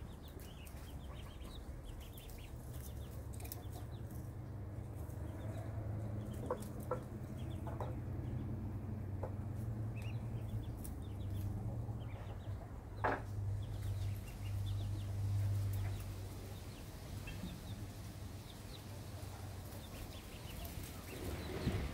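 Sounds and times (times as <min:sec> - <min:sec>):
young birds peeping: 0:00.0 - 0:21.9.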